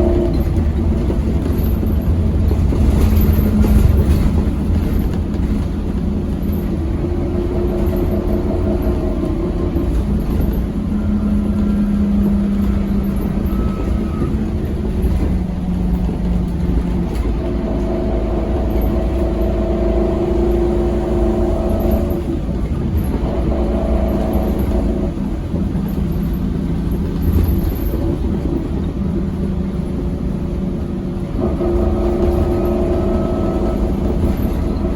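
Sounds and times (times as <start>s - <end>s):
gearbox whining: 0.0s - 29.8s, 31.3s - 34.9s
bus engine rumble: 0.0s - 34.9s.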